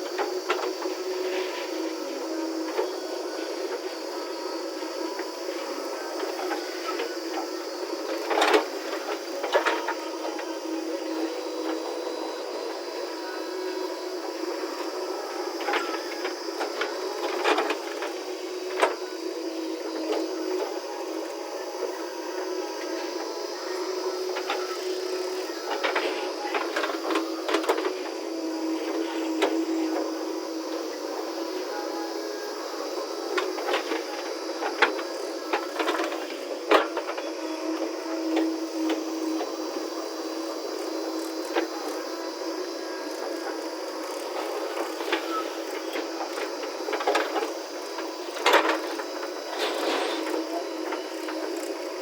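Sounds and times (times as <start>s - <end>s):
machine running steadily: 0.0s - 52.0s.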